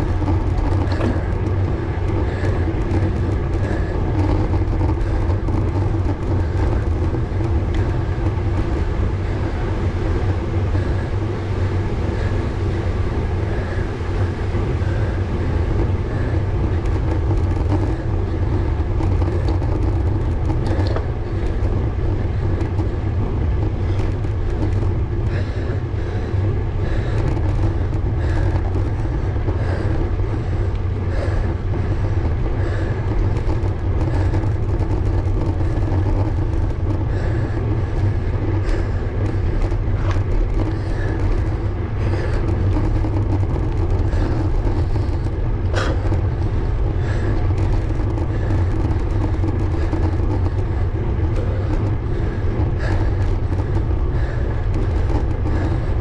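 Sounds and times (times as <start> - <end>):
bike tyre noise on tarmac: 0.0 - 56.0
wind rumble: 0.0 - 56.0.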